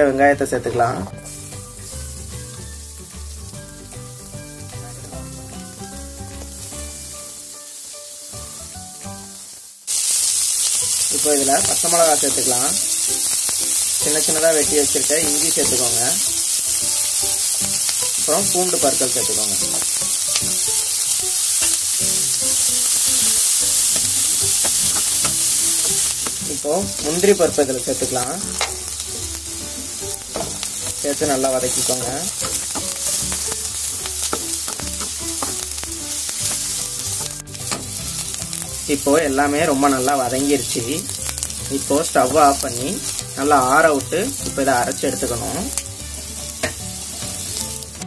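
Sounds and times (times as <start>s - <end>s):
background music with bass: 0.0s - 7.5s, 14.0s - 48.0s
onions sizzling in hot oil: 0.0s - 48.0s.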